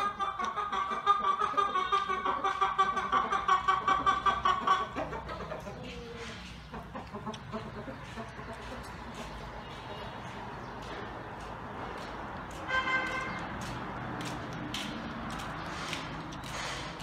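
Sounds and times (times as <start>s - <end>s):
chicken clucking: 0.0s - 17.0s.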